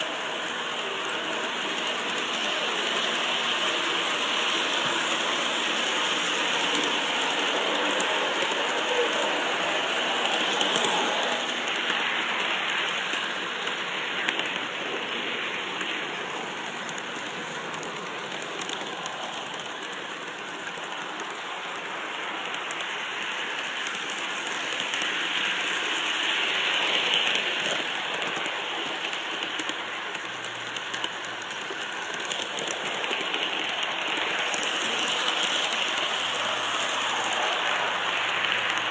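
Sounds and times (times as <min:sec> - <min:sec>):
model train wheels hissing: 0:00.0 - 0:38.9.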